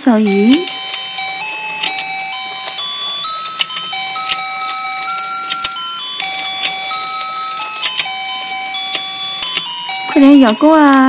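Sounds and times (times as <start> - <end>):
electronic toy tune beeping: 0.0 - 11.0
plastic toy clicks: 0.2 - 11.0.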